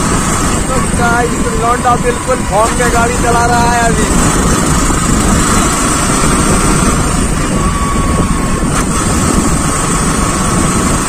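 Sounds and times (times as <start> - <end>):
motorcycle engine running: 0.0 - 11.0
wind on microphone: 0.0 - 11.0.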